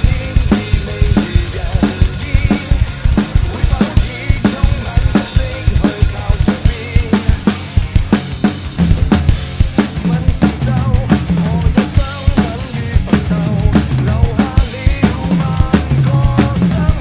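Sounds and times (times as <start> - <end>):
backing track with bass: 0.0 - 17.0
drum kit playing groove: 0.0 - 17.0.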